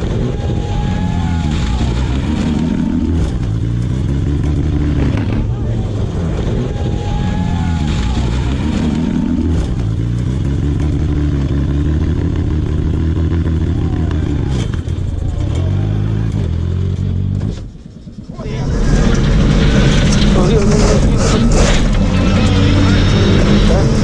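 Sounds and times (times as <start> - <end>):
rally car engine from inside cabin: 0.0 - 24.0.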